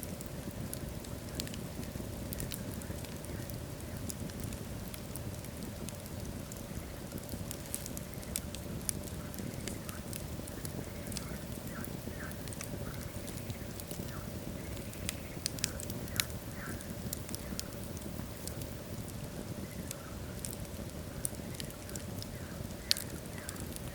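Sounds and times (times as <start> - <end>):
burning logs crackling and popping: 0.0 - 23.9
fire flame rushing: 0.0 - 23.9.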